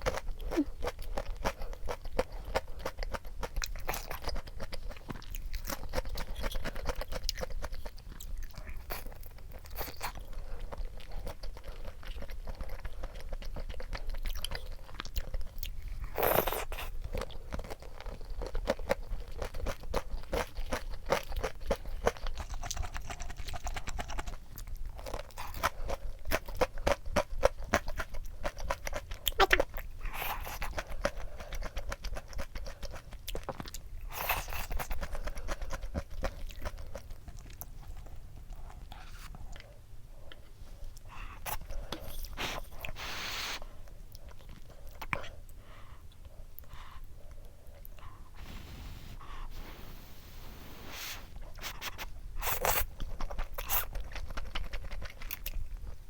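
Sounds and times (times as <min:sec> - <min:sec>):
chewing crispy fried chicken: 0:00.0 - 0:48.3, 0:51.3 - 0:56.0.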